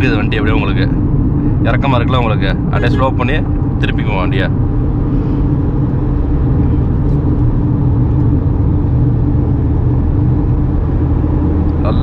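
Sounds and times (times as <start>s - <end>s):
car engine running: 0.0s - 12.0s
road and wind noise: 0.0s - 12.0s.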